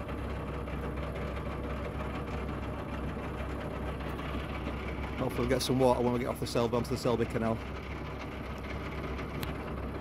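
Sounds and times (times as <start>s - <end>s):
boat diesel engine running: 0.0s - 10.0s.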